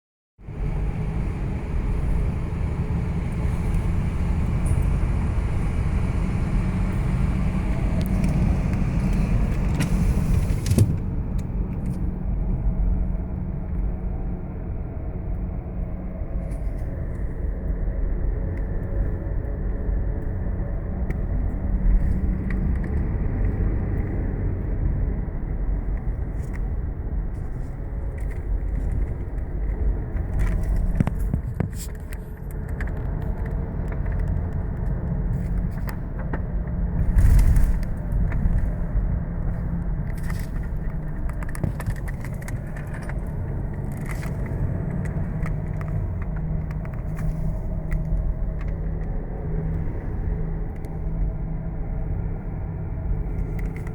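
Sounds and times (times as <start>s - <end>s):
road rumble: 0.4s - 53.9s.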